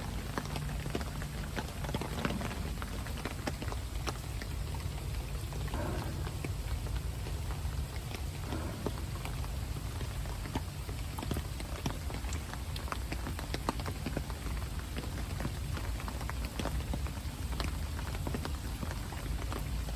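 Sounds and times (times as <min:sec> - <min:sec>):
raindrops ticking close by: 0:00.0 - 0:19.9
steady rain falling: 0:00.0 - 0:19.9.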